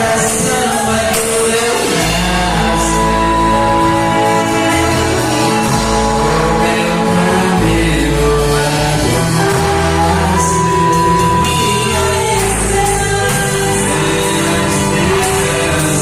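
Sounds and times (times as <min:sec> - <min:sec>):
electric guitar: 0:00.0 - 0:16.0
person singing: 0:00.0 - 0:16.0
worship band music: 0:00.0 - 0:16.0.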